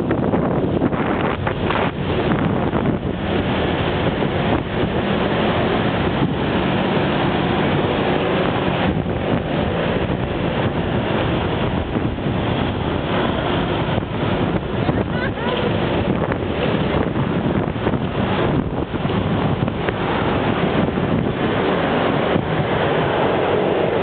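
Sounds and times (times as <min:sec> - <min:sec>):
city street traffic: 0:00.0 - 0:24.0
wind rushing on microphone: 0:00.0 - 0:24.0.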